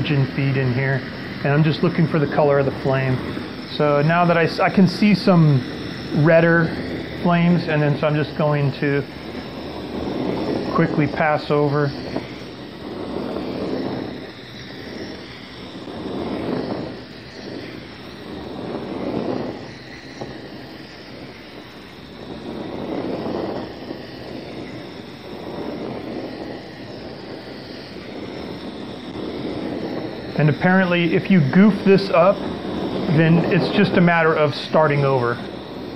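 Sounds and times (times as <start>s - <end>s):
gas torch hissing: 0.0s - 35.9s.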